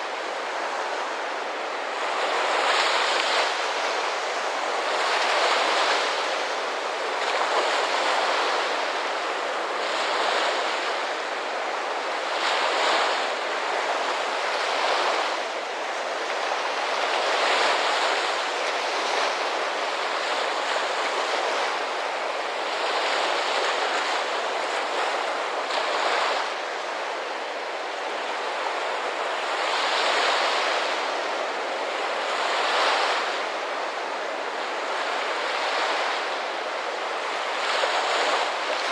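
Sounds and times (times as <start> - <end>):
ocean surf washing ashore: 0.0 - 38.9.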